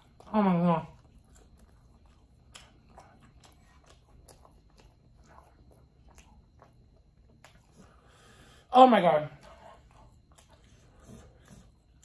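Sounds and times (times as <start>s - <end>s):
wet chewing mouth clicks: 0.0s - 8.2s, 9.4s - 12.0s.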